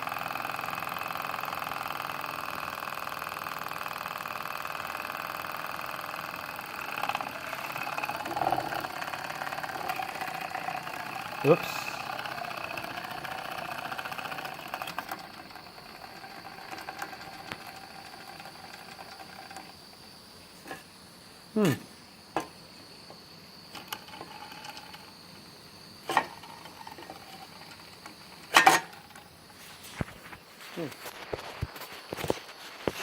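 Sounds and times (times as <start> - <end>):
model engine whirring: 0.0 - 20.9, 23.7 - 31.2.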